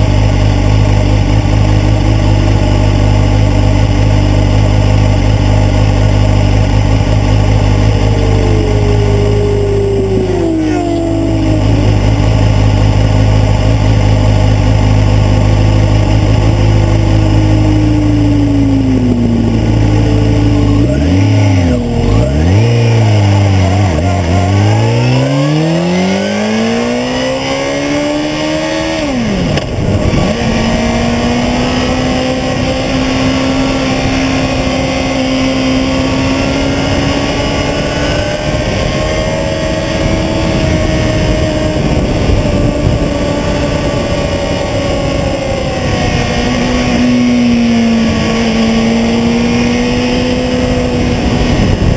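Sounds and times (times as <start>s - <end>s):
motorcycle engine: 0.0s - 51.9s
motorcycles passing by: 0.0s - 51.9s.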